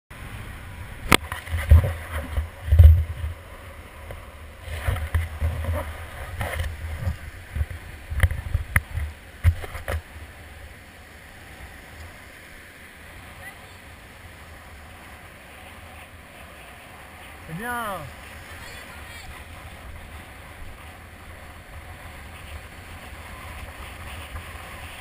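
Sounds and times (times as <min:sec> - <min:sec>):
shallow surf washing: 0:00.2 - 0:25.0.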